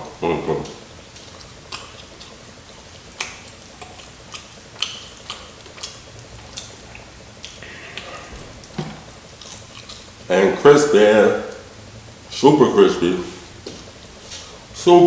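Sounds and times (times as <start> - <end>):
crunching fried chicken: 0.0 - 13.0.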